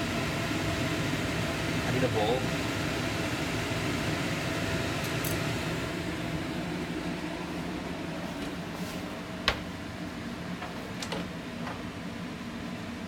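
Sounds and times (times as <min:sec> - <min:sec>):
fan-like hum: 0:00.0 - 0:13.0.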